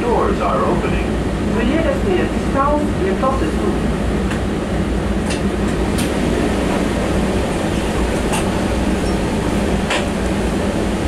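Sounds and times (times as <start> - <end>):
train car rumble and hum: 0.0 - 11.0.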